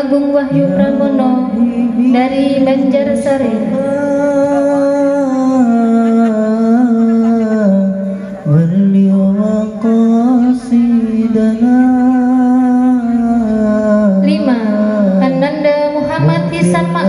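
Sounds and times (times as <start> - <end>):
person singing chant-like melody: 0.0 - 15.6.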